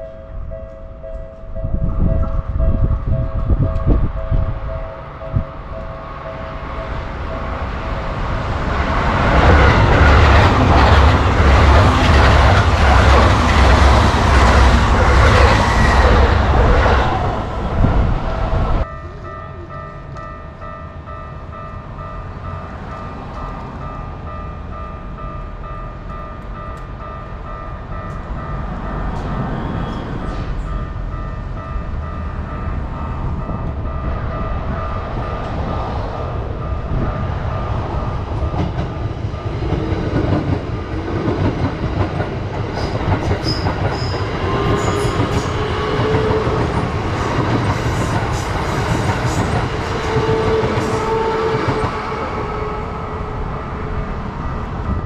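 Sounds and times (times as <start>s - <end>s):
train rumble and wheel clatter: 0.0s - 55.0s.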